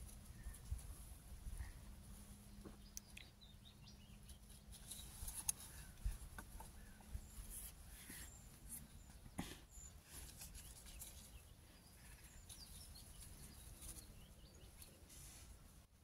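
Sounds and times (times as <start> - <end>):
faint bird chirps: 1.5 - 15.4.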